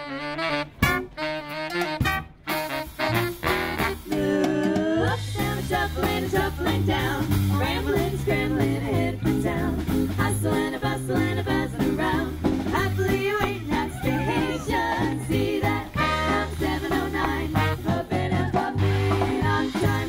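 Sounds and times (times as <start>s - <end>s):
swing band playing: 0.0s - 20.0s.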